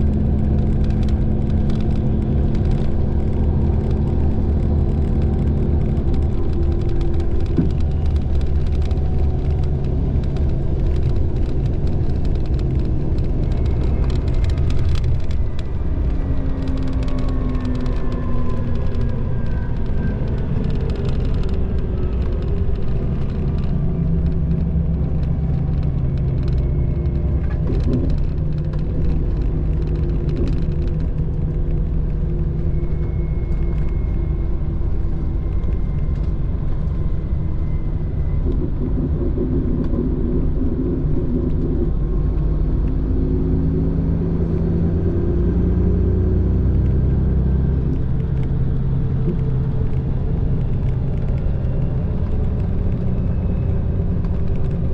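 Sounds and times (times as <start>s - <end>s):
coach engine drone: 0.0s - 54.9s.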